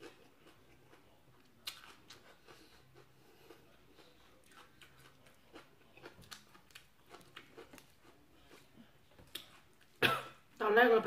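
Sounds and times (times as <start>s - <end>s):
faint crunching and chewing: 0.0s - 10.6s.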